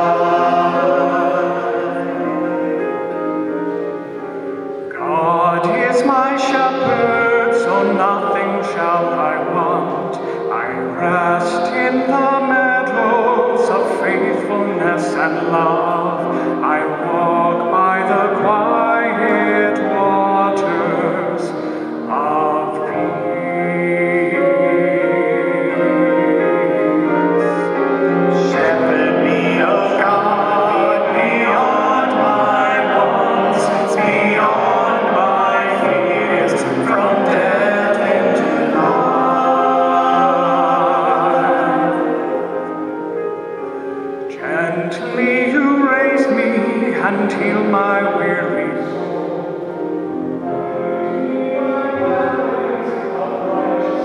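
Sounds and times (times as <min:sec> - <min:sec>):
church singing with accompaniment: 0:00.0 - 0:54.0.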